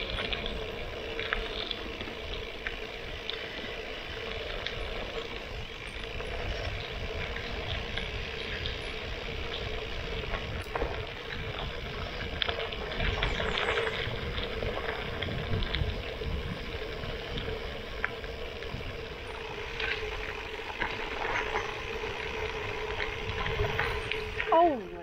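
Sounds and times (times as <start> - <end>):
faint steady hum: 0.0 - 25.0
low wind rumble: 0.0 - 25.0
small clicks and rattles: 0.0 - 25.0
tyres crunching on gravel: 0.0 - 25.0.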